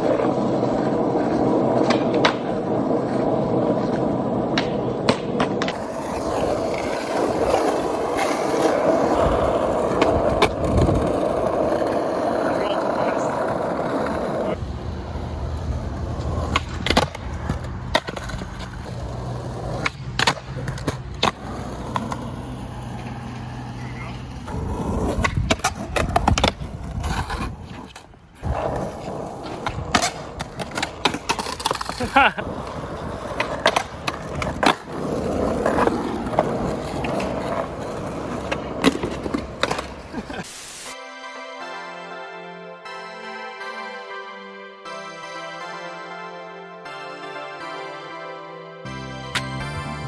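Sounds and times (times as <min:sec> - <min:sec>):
skateboard clacks: 0:00.0 - 0:40.4
skateboard wheels rolling on pavement: 0:00.0 - 0:41.0.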